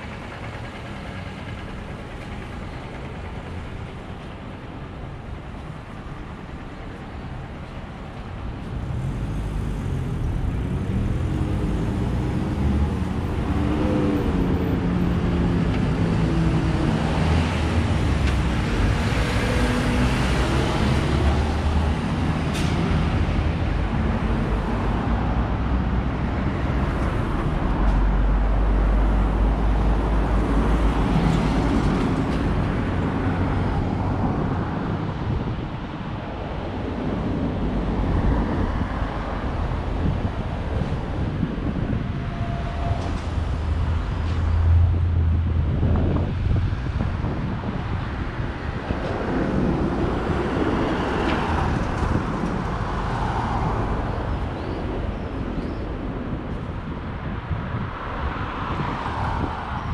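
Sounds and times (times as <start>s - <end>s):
heavy vehicle engine: 0.0s - 57.8s
road traffic passing: 0.0s - 59.9s.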